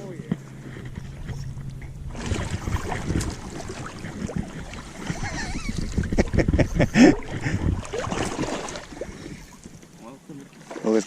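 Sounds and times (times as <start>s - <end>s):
water splashing and sloshing: 0.0s - 11.0s
wind on microphone: 0.3s - 9.9s.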